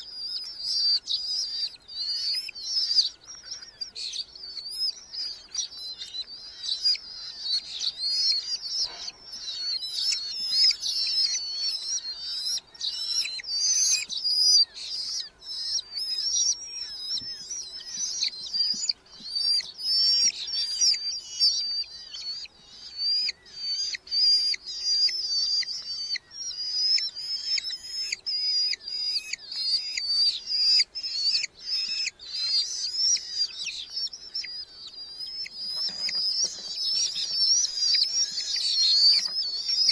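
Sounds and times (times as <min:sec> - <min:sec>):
falcon chicks calling: 0:00.0 - 0:39.9.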